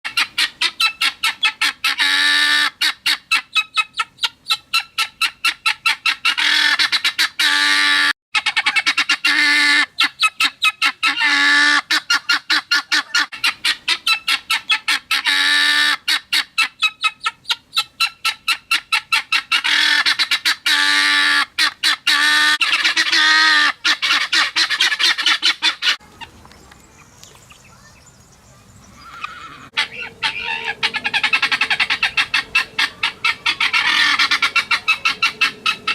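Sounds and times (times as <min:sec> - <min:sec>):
guinea fowl squawking: 0:00.1 - 0:28.0, 0:29.0 - 0:35.9.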